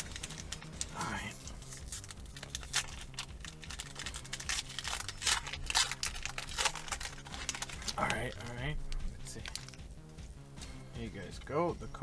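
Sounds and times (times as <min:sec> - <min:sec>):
foil pack tearing and crinkling: 0:00.0 - 0:09.8.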